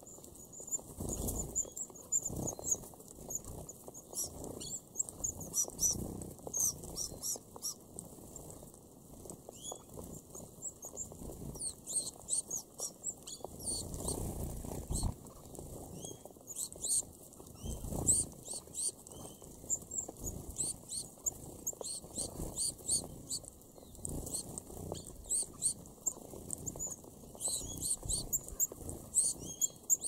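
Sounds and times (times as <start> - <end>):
finches chirping: 0.0 - 7.8, 9.5 - 30.0
wingbeats and rustling: 0.0 - 30.0.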